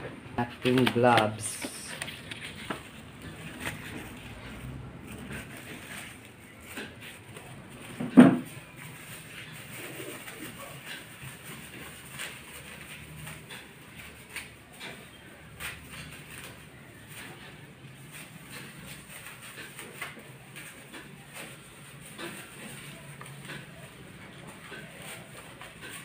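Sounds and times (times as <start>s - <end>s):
plastic gloves crinkling: 0.4s - 26.0s.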